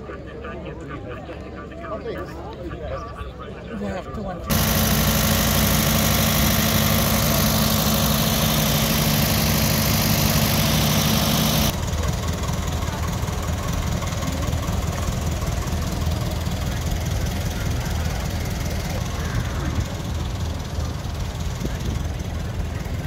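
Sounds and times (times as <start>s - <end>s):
tractor engines running: 4.4s - 23.0s.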